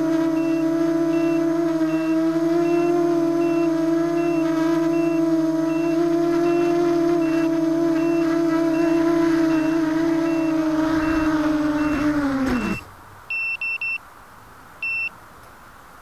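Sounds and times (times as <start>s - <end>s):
drone motors humming: 0.0s - 13.2s
short high beeps: 0.4s - 14.0s, 14.8s - 15.1s
quick electronic beeps: 1.2s - 14.0s.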